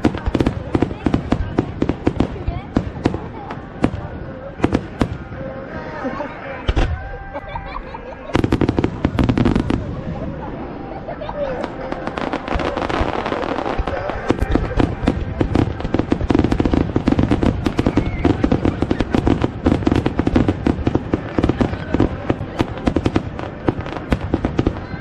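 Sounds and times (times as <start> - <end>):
fireworks bangs and crackles: 0.0 - 5.6, 6.6 - 7.1, 8.2 - 10.8, 11.4 - 25.0.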